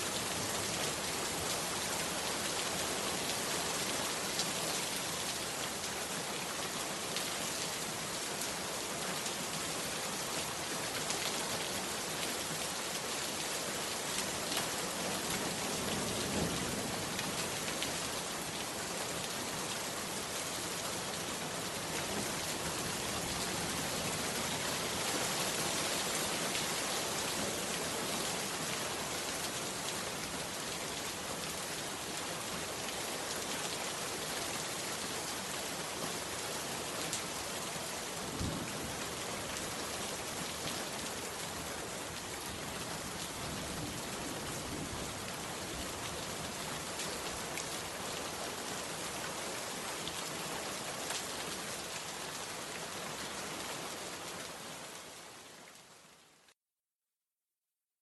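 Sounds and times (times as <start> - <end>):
heavy rain falling: 0.0 - 56.5.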